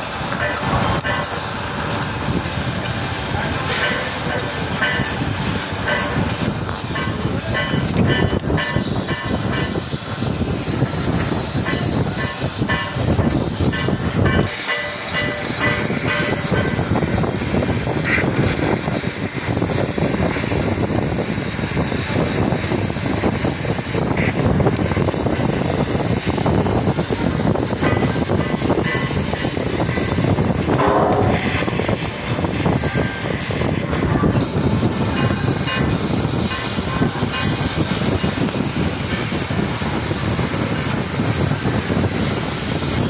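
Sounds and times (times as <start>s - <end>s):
laser cutting machine hissing: 0.0s - 43.0s.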